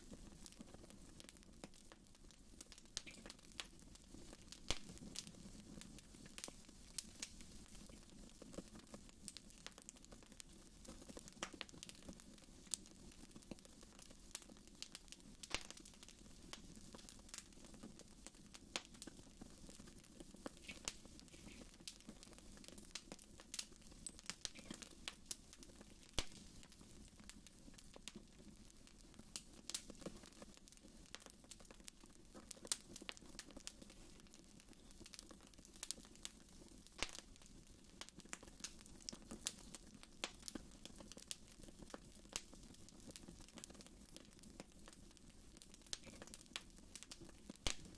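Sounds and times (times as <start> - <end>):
low hiss of flames: 0.0 - 47.9
wood fire crackling: 0.0 - 47.9.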